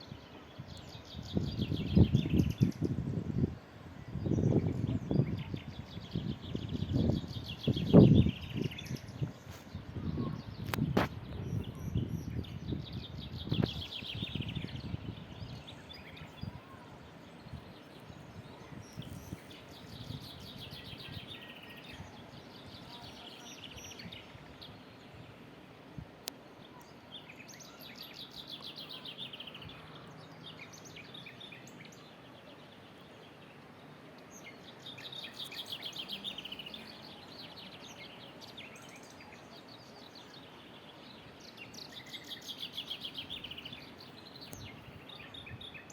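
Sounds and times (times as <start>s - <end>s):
songbird singing trills: 0.0s - 25.4s, 26.3s - 45.9s
faint outdoor background noise: 0.0s - 45.9s.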